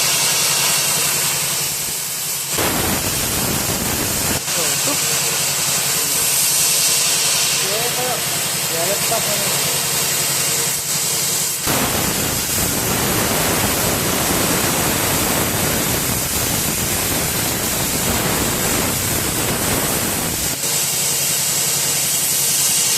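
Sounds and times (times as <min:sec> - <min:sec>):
air hiss: 0:00.0 - 0:22.9
plasma arc cutting rasp: 0:00.0 - 0:22.9.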